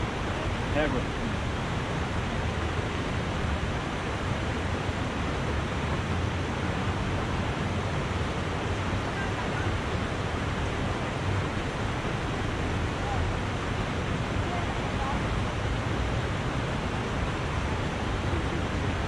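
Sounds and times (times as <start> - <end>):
river rushing over rocks: 0.0 - 19.0
wind rumble on microphone: 0.0 - 19.0.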